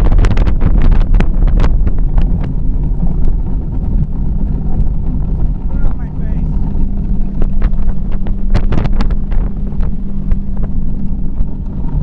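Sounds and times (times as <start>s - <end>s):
outboard motor droning at speed: 0.0s - 12.0s
wind buffeting microphone: 0.0s - 12.0s.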